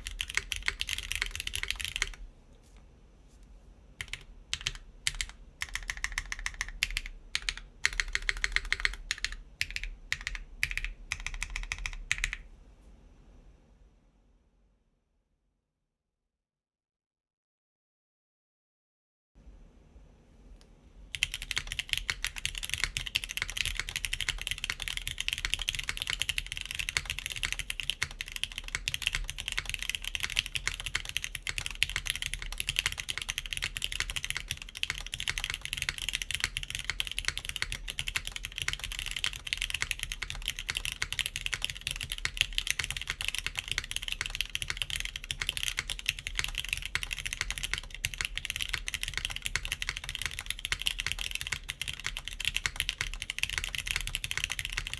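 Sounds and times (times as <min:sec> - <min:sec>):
fast typing on mechanical keyboard: 0:00.0 - 0:02.2, 0:04.0 - 0:12.5, 0:21.1 - 0:54.9.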